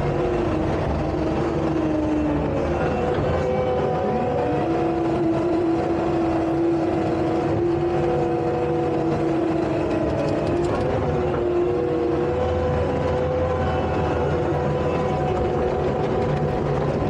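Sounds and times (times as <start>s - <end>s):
diesel engine whine and rumble: 0.0s - 17.0s.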